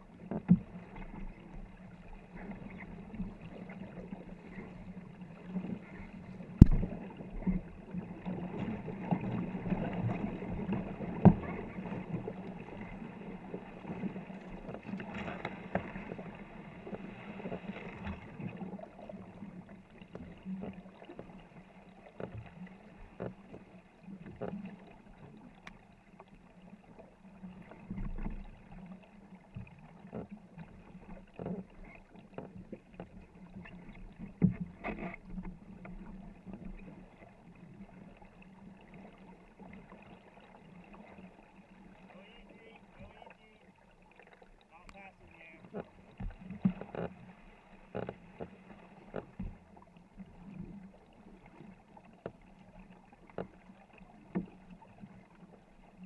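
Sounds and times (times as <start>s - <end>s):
paddles knocking wooden canoe: 0.0s - 26.4s, 27.1s - 56.0s
paddles splashing water: 0.0s - 56.0s.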